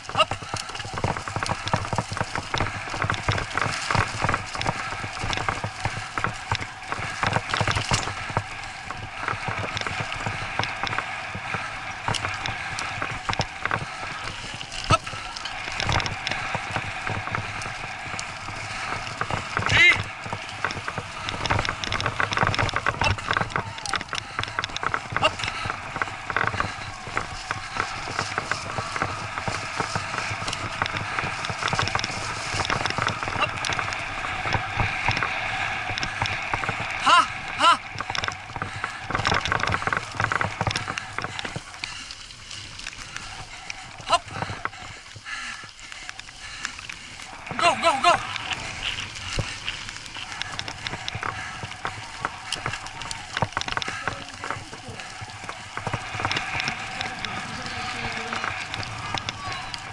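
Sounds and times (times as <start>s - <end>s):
bicycle rattling and knocking: 0.0s - 59.9s
tyres rushing on dirt and leaves: 0.0s - 59.9s.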